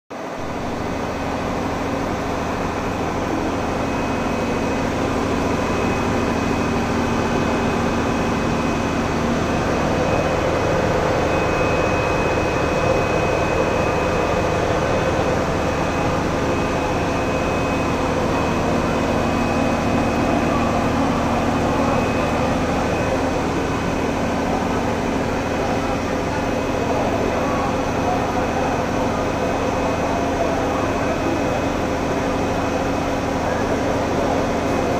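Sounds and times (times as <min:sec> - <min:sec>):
machinery drone: 0:00.2 - 0:34.9
thin high whine: 0:00.2 - 0:34.9.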